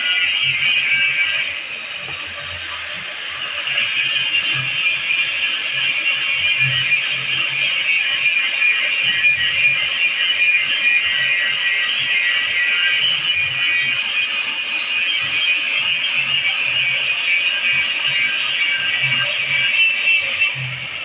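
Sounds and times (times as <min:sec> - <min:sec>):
power tool grinding metal: 0:00.0 - 0:21.0.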